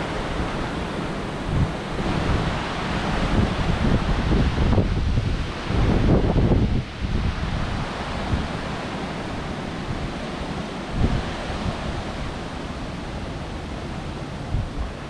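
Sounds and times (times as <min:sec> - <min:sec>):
gusting wind on microphone: 0:00.0 - 0:15.0
surf washing: 0:00.0 - 0:15.0.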